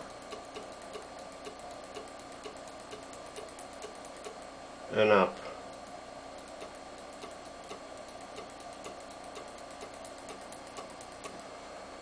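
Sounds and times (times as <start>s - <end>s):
stepper motor ticking: 0.0s - 4.5s, 5.7s - 11.4s.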